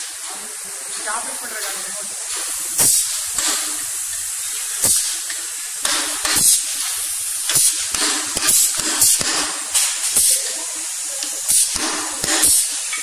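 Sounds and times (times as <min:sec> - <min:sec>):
compressed air bursts from valves: 0:00.0 - 0:13.0
steady background hiss: 0:00.0 - 0:13.0.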